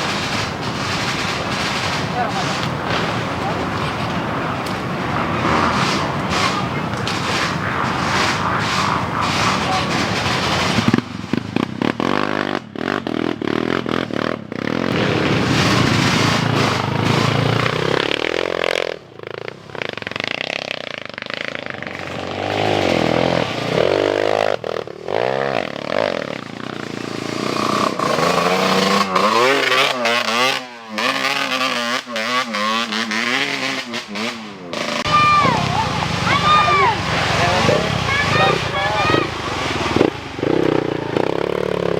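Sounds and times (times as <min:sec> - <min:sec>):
dirt bike engines revving: 0:00.0 - 0:41.9.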